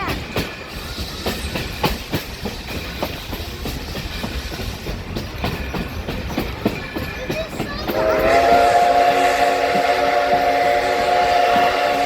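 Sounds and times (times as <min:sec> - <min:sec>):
low train rumble: 0:00.0 - 0:12.0
train wheels clacking on rails: 0:00.0 - 0:12.0.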